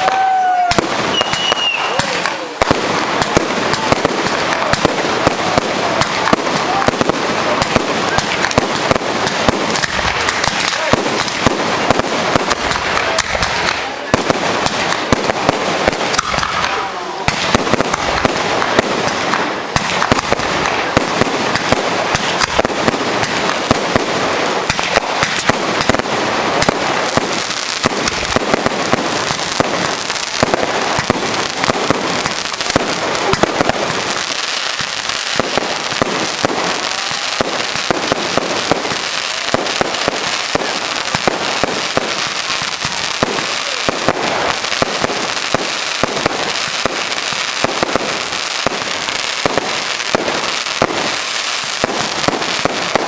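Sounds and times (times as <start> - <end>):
fireworks banging and crackling: 0.0 - 53.0.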